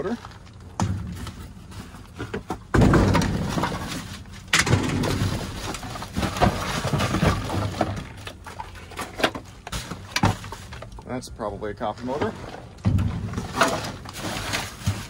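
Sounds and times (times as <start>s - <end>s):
cardboard and plastic rustling: 0.0s - 11.1s, 11.8s - 15.0s.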